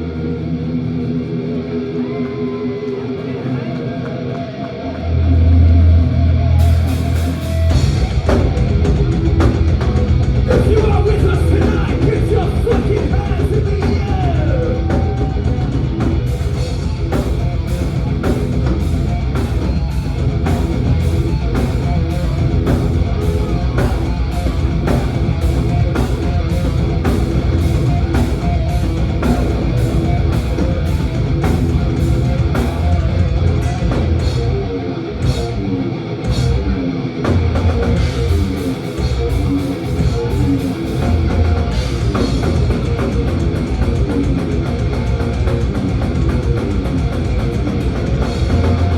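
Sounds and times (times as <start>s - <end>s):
distorted electric guitars: 0.0s - 48.9s
drum kit fast beat: 6.4s - 34.6s, 37.3s - 48.9s.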